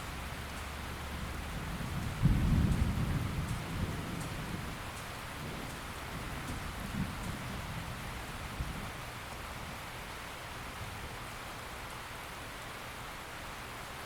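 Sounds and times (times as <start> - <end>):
steady rainfall: 0.0 - 14.0.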